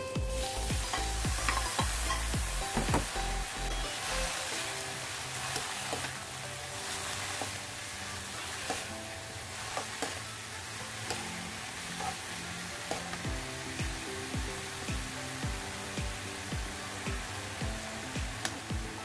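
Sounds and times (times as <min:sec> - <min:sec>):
mushrooms sizzling in a pan: 0:00.0 - 0:19.0.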